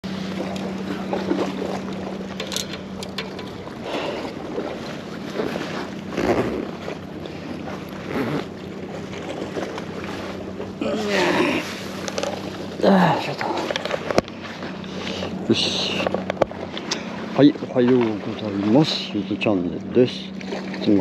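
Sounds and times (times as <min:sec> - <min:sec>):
sea wash: 0:00.0 - 0:21.0
steady low hum: 0:00.0 - 0:21.0.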